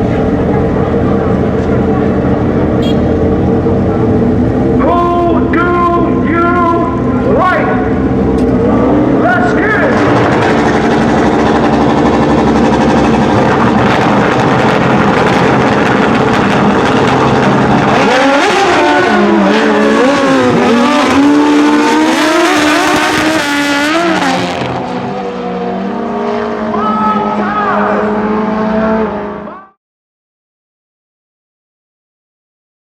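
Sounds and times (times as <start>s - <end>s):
motorcycle engines revving: 0.0s - 29.7s.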